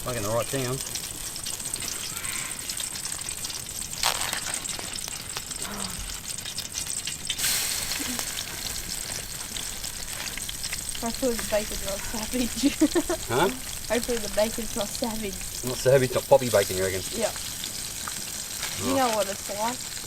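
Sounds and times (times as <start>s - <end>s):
bacon sizzling in oil: 0.0s - 20.0s.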